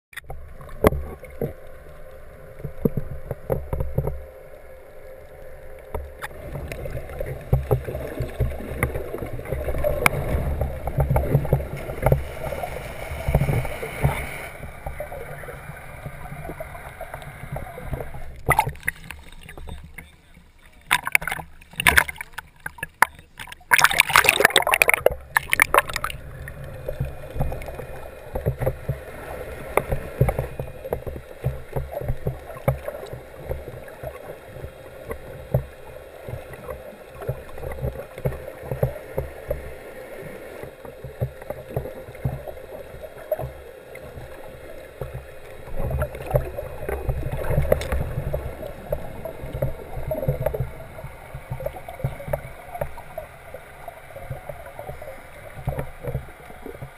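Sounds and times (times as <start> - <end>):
water splashing: 0.1 - 56.9
muffled underwater rumble: 0.2 - 56.9.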